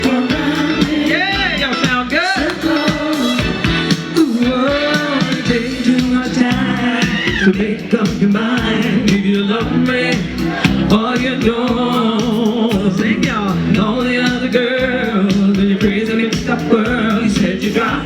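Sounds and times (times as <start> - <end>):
live soul band over pa: 0.0 - 18.0
person singing: 0.0 - 18.0.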